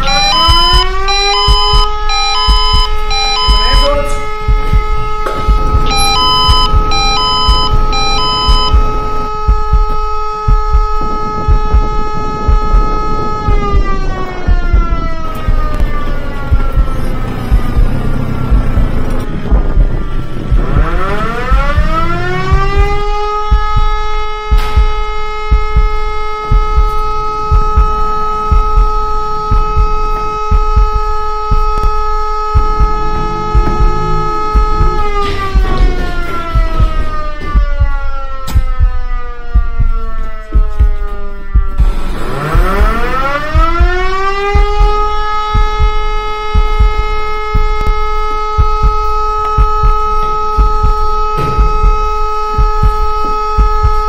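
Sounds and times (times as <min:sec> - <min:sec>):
alarm siren winding up: 0:00.0 - 0:19.4, 0:20.8 - 0:54.0
low irregular thumps: 0:00.0 - 0:54.0.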